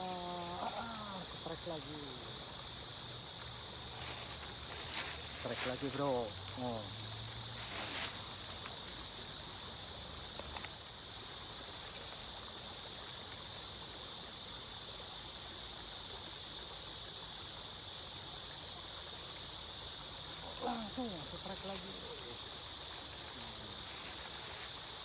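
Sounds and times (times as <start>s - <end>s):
insect chorus buzzing: 0.0s - 25.0s.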